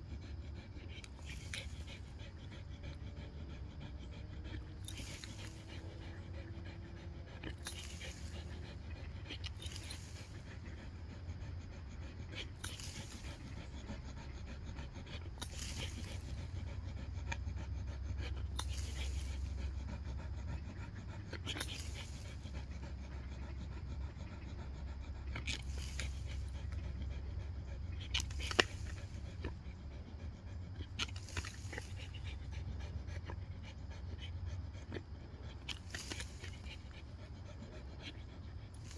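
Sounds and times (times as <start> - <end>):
dog breathing heavily: 0.0 - 38.9
steady low hum: 0.0 - 38.9.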